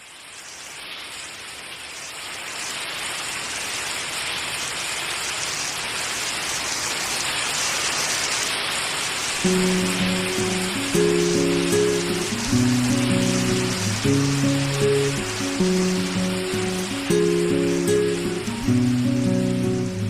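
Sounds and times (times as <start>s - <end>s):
falling water rushing: 0.0s - 20.0s.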